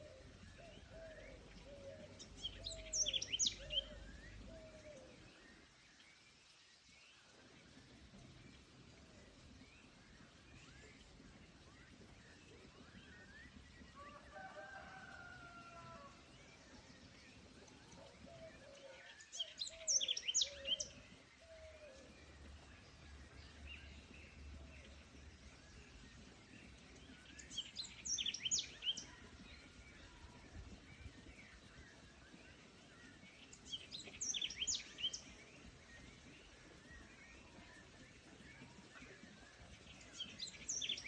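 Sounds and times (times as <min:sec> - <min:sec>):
songbird chirping: 0:00.0 - 0:41.0.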